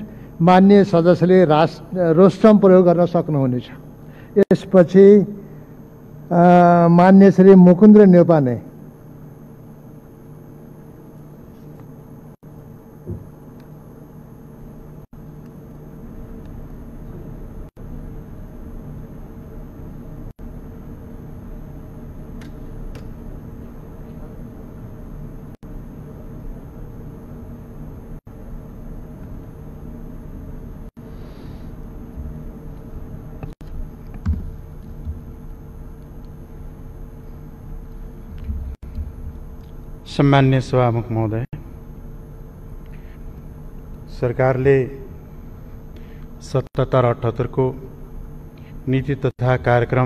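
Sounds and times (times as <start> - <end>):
low hum and hiss: 0.0 - 50.0.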